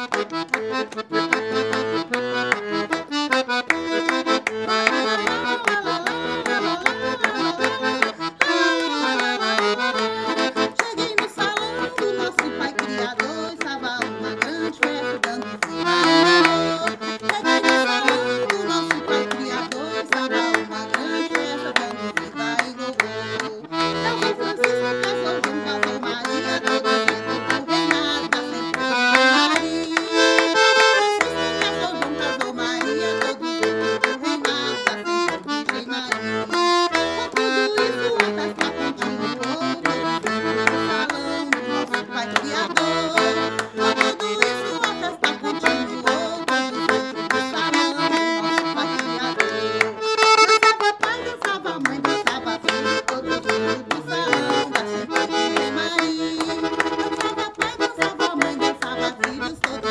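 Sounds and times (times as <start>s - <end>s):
accordion-like melody: 0.0s - 59.9s.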